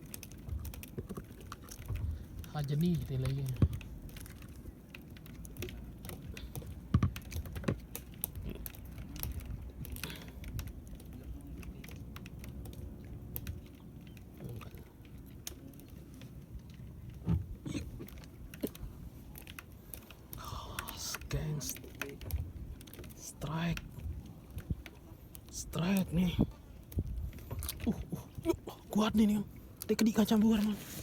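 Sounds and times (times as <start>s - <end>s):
light clicks and taps: 0.0s - 28.1s.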